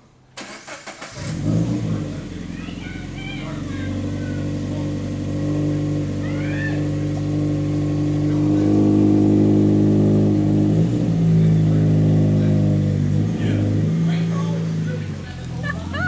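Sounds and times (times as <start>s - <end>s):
loud car engine exhaust: 0.0s - 16.0s.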